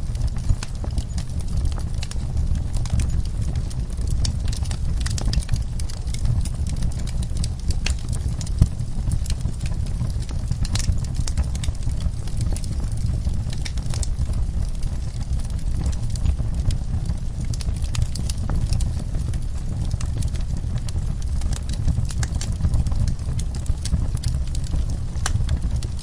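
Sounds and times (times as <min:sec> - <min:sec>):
steady low rumble: 0:00.0 - 0:26.0
wood fire crackling and popping: 0:00.0 - 0:26.0.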